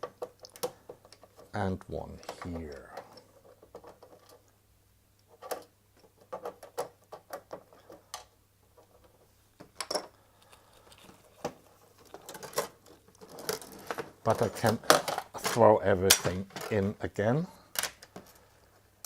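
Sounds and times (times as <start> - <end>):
plastic parts being handled: 0.0 - 4.6, 5.2 - 19.0.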